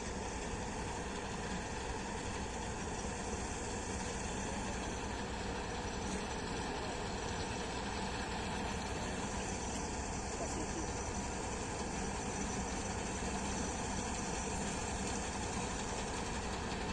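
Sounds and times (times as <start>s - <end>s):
combine harvester running: 0.0s - 16.9s.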